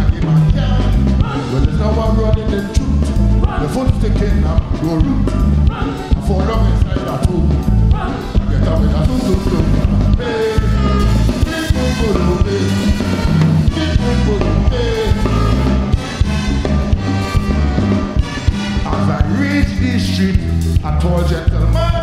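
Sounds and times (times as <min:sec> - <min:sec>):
bass and drum beat: 0:00.0 - 0:22.0
live calypso big band: 0:00.0 - 0:22.0
saxophone and horns: 0:00.0 - 0:22.0.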